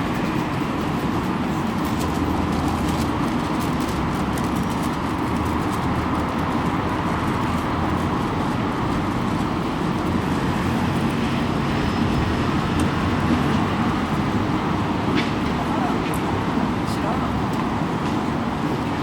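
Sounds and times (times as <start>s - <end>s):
road traffic rumble: 0.0s - 19.0s
strong wind: 0.0s - 19.0s.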